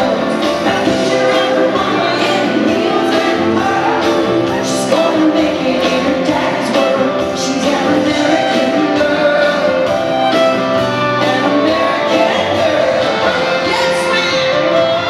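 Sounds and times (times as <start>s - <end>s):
woman singing: 0.0s - 10.0s, 11.0s - 15.0s
electric guitar: 0.0s - 15.0s
fiddle: 0.0s - 15.0s.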